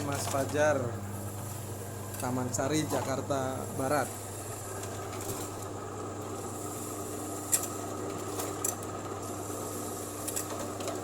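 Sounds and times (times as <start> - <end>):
slicing machine motor hum: 0.0 - 11.0.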